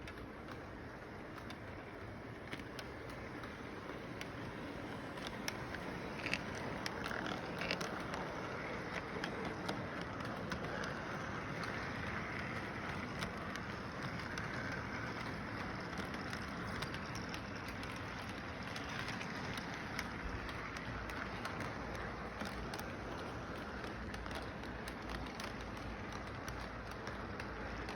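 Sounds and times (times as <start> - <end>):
train rolling on track: 0.0 - 27.9.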